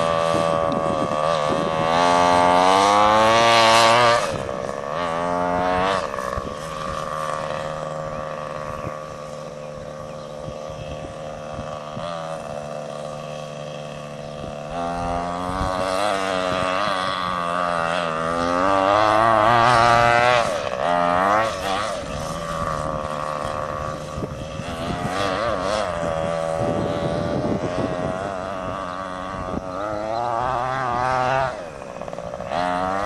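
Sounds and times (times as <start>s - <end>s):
small engine revving: 0.0s - 33.0s.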